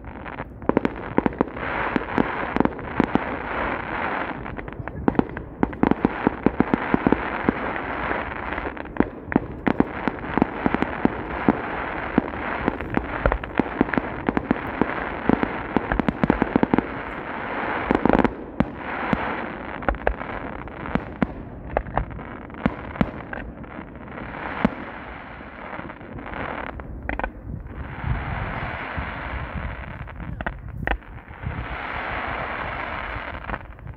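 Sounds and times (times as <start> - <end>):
fireworks bursting: 0.0 - 33.9
fireworks crackle: 0.0 - 33.9.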